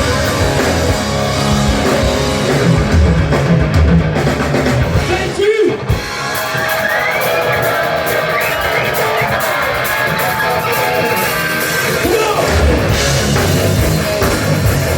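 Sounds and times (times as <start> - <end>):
rock band playing live: 0.0 - 14.9.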